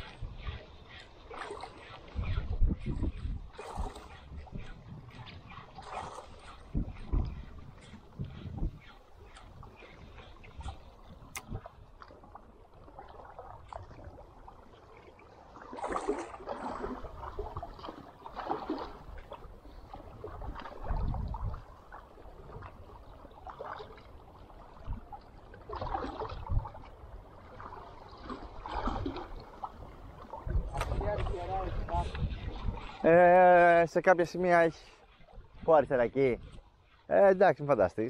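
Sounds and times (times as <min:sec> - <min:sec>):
water lapping against boat hull: 0:00.0 - 0:38.0.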